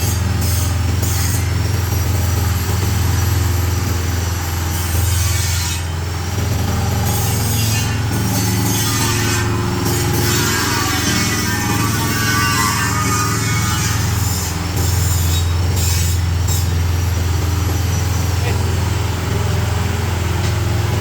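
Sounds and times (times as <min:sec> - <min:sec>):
mixer machine humming: 0:00.0 - 0:05.2, 0:05.8 - 0:21.0
churning noise: 0:00.0 - 0:21.0.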